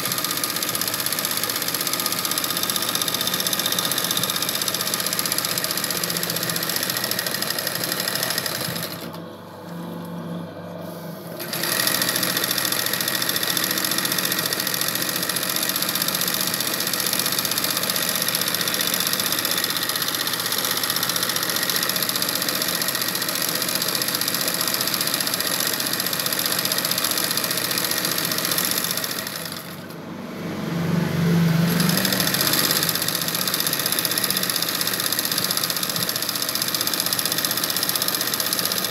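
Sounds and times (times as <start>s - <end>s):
sewing machine stitching fast: 0.0s - 9.2s, 11.4s - 30.0s, 31.5s - 38.9s.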